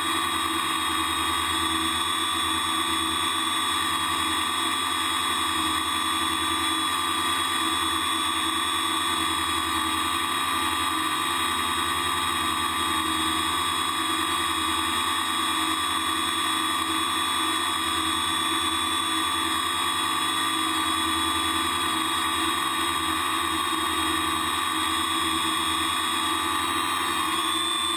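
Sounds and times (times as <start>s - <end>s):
drone motors whining: 0.0s - 27.9s.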